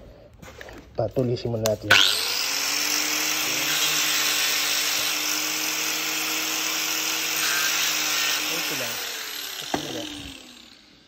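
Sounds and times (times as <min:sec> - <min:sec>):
electric grinder grinding: 0:01.9 - 0:11.0.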